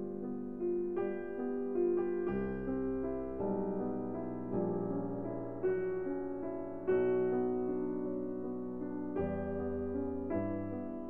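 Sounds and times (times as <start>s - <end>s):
piano background music: 0.0s - 11.0s.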